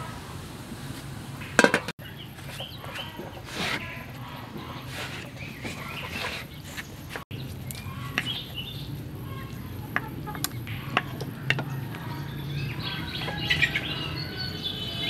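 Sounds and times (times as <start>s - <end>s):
birds chirping: 1.4s - 15.0s.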